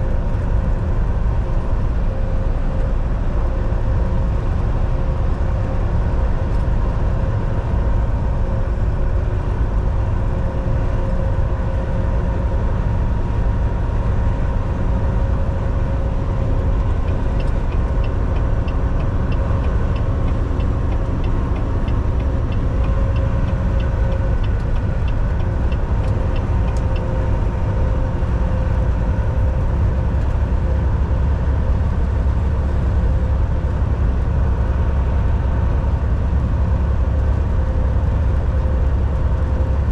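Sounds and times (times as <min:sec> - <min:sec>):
road and tyre rumble: 0:00.0 - 0:39.9
truck engine drone: 0:00.0 - 0:39.9.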